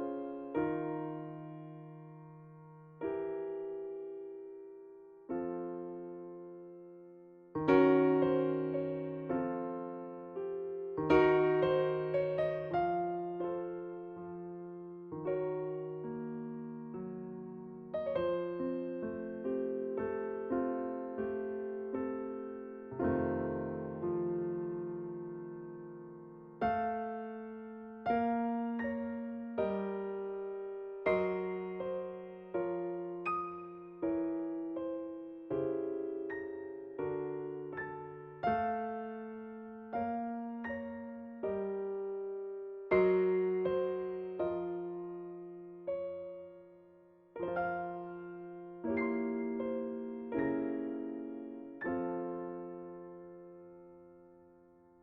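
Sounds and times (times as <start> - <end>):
soft electric piano chords: 0.0 - 55.0.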